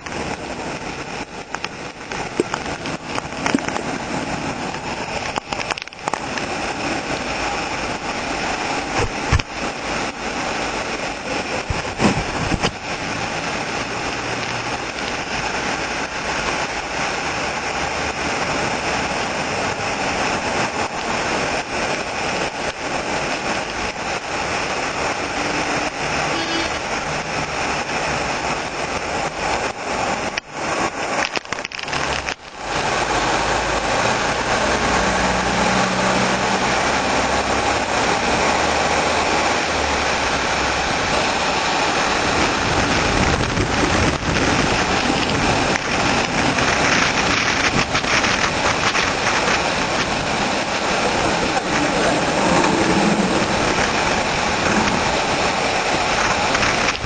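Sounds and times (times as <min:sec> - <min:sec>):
hail and heavy rain pelting: 0:00.0 - 0:57.0.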